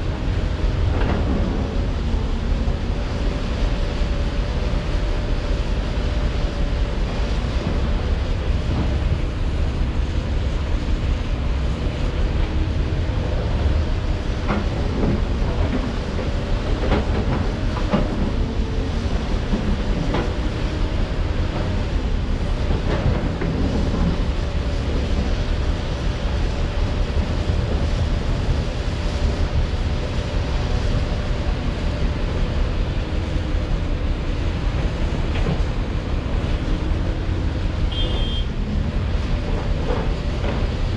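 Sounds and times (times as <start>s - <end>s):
diesel machinery rumbling: 0.0s - 40.9s.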